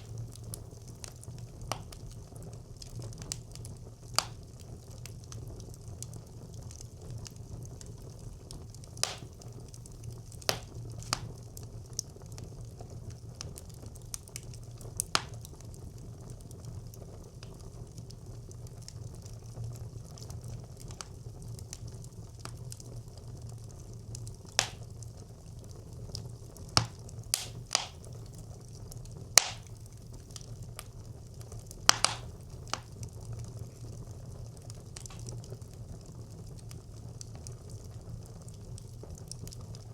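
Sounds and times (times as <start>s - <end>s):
fire crackles and pops: 0.0s - 39.9s
fire rumbling in a stove: 0.0s - 39.9s.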